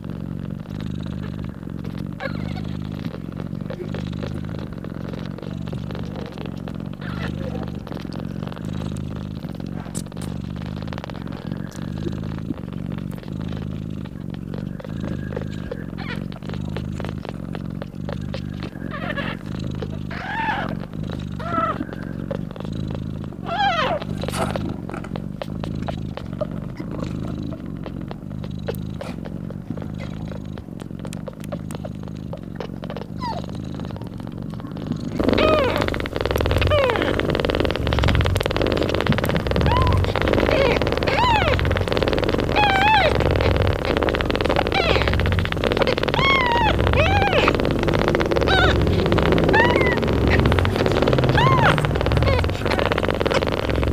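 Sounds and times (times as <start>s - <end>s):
cat purring: 0.0s - 53.9s
small clicks: 0.6s - 53.9s.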